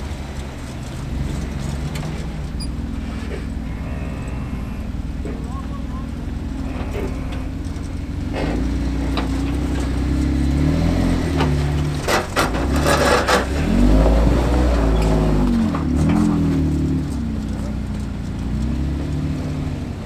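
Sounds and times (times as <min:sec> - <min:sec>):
engine revving under load: 0:00.0 - 0:20.0
sharp knocks and crunches: 0:00.0 - 0:20.0.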